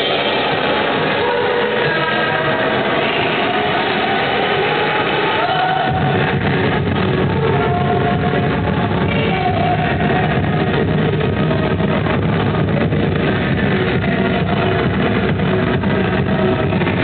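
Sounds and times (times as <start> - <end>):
loud exercise class music: 0.0 - 17.0.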